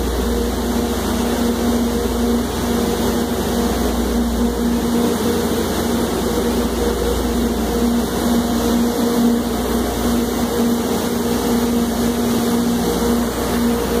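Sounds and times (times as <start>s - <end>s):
machinery drone: 0.0s - 14.0s.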